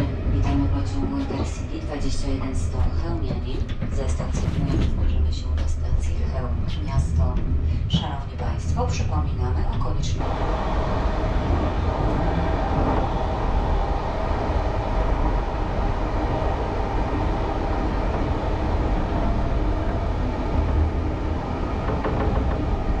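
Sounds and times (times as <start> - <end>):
train rolling noise: 0.0 - 23.0.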